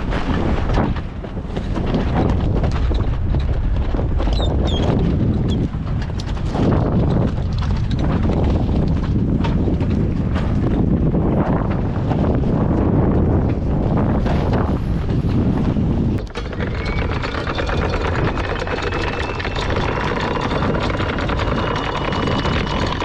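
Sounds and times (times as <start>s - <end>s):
boat engine running: 0.0s - 23.0s
wind buffeting microphone: 0.0s - 23.0s.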